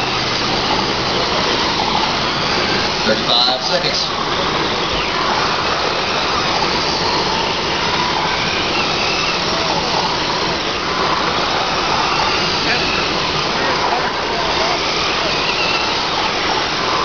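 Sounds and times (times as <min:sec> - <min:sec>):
rc truck motors whining: 0:00.0 - 0:17.0
steady rushing noise: 0:00.0 - 0:17.0.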